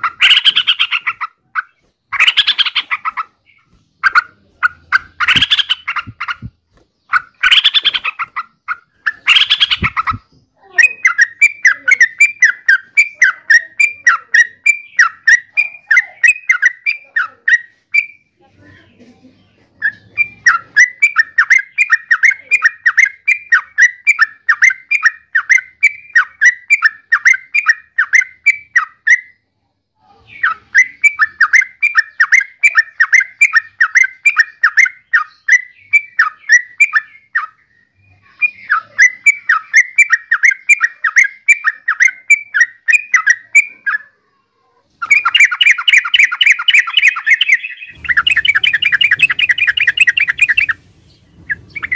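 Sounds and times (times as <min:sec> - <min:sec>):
bird chirping rapidly: 0:00.0 - 0:29.4, 0:30.2 - 0:44.2, 0:45.0 - 0:51.9
bird singing bubbly phrases: 0:00.0 - 0:44.2, 0:45.0 - 0:51.9.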